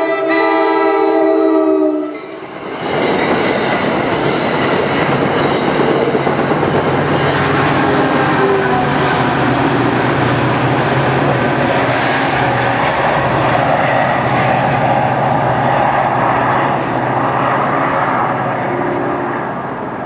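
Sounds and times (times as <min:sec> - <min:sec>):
diesel locomotive engine hum: 0:00.0 - 0:20.0
rail and wheel noise: 0:00.0 - 0:20.0.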